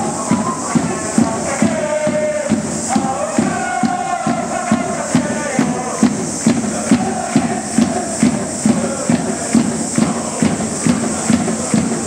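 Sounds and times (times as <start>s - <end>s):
crowd chanting: 0.0s - 12.0s
steady drum beat: 0.0s - 12.0s.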